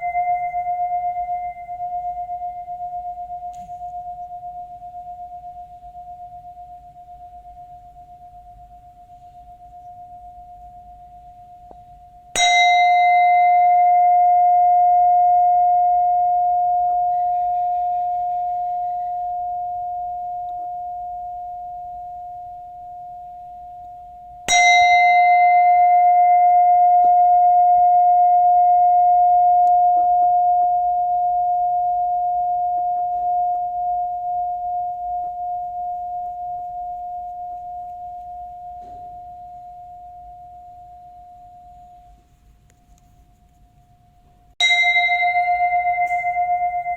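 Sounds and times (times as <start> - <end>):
ritual bell ringing: 0.0 - 42.2, 44.6 - 46.9.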